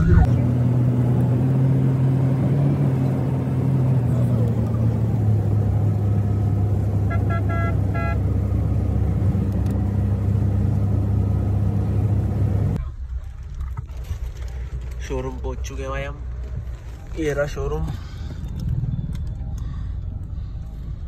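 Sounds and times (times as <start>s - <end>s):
car engine and road hum: 0.0s - 21.0s.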